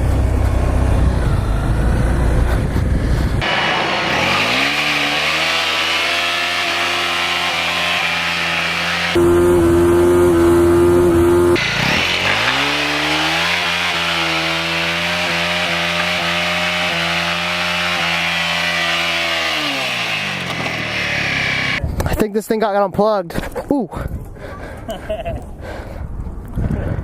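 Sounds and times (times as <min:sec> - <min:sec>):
motorcycle engine revving: 0:00.0 - 0:21.8.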